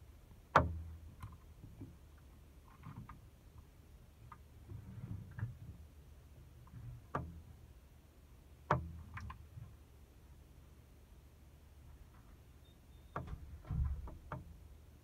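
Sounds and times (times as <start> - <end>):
low uneven rumble: 0.0 - 12.6.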